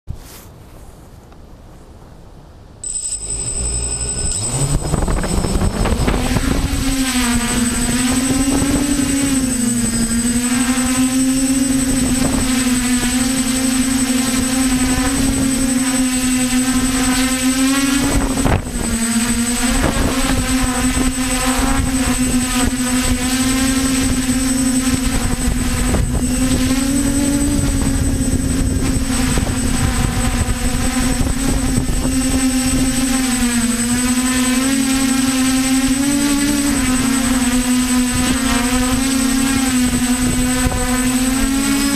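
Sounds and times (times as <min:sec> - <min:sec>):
drone motors humming: 0:02.8 - 0:41.9
thin high whine: 0:02.8 - 0:41.9
wind rumble on microphone: 0:04.2 - 0:41.9.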